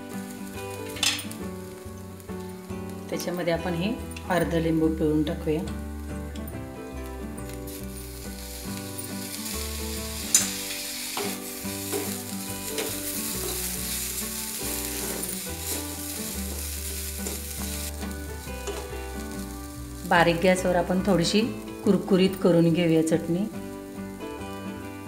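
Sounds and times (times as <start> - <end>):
chutney sizzling in hot oil: 0.0 - 25.0.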